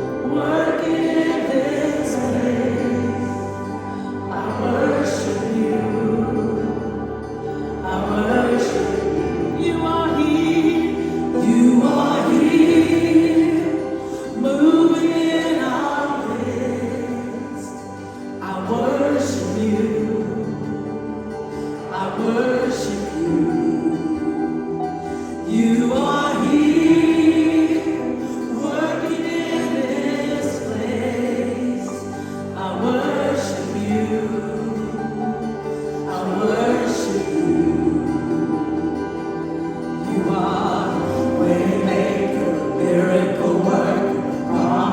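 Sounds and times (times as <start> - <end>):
congregation singing gospel song: 0.0 - 44.9.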